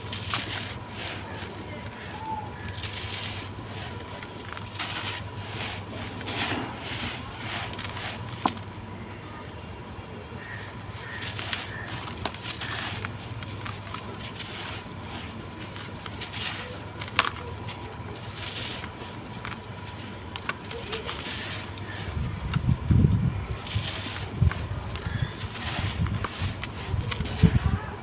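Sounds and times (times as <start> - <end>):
blocks crumbling and crunching: 0.0 - 8.9, 10.4 - 28.0.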